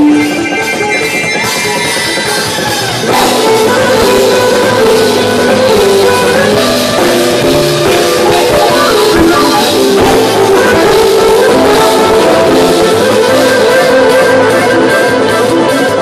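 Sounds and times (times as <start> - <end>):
accordion: 0.0 - 16.0
live band playing instrumental: 0.0 - 16.0
violin: 0.0 - 16.0.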